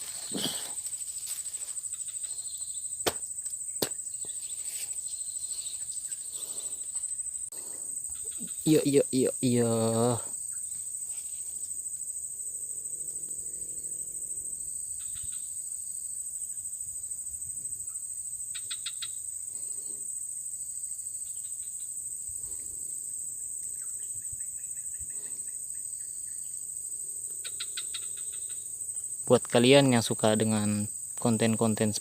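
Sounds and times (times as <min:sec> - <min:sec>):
insect chorus drone: 0:00.0 - 0:32.0
rapid insect chirping: 0:00.0 - 0:32.0.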